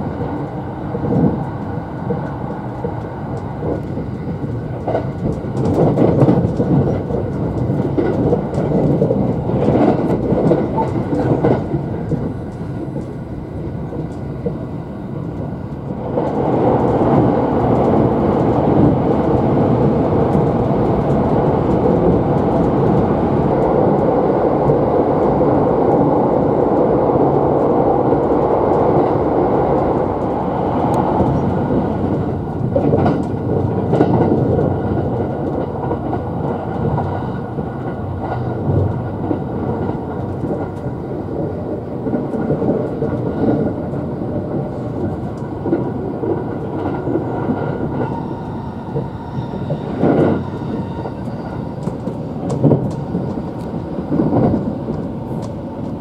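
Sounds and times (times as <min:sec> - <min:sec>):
train running noise from inside: 0:00.0 - 0:56.0.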